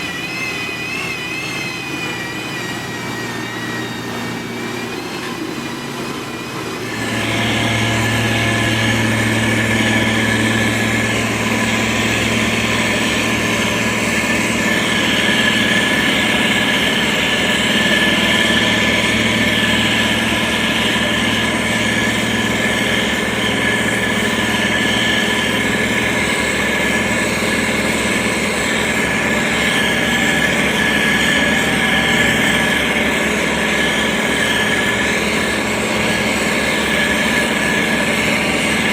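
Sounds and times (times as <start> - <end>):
heavy machinery diesel engine whining: 0.0 - 38.9.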